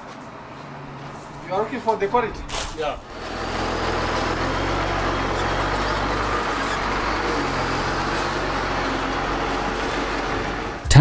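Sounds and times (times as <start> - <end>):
road and tyre noise: 0.0 - 11.0
truck diesel engine running: 0.8 - 11.0.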